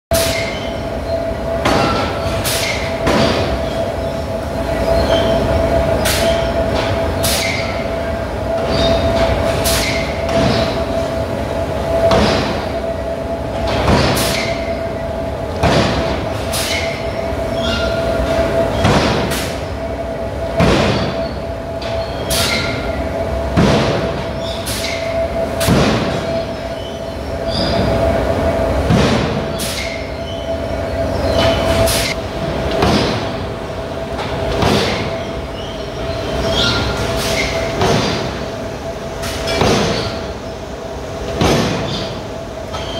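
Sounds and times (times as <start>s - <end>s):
steady hum: 0.1s - 42.8s.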